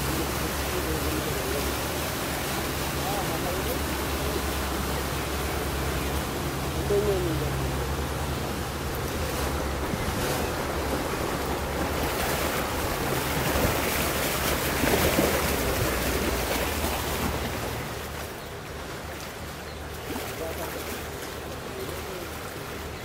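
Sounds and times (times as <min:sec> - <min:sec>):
boat engines humming: 0:00.0 - 0:23.0
waves washing against riverbank: 0:00.0 - 0:23.0.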